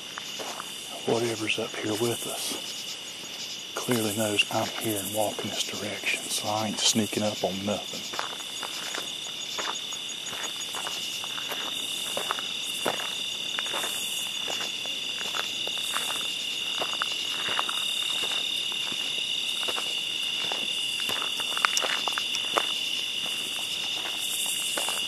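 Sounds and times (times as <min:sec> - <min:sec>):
footsteps on forest floor: 0:00.0 - 0:25.0
night insects chorus: 0:00.0 - 0:25.0.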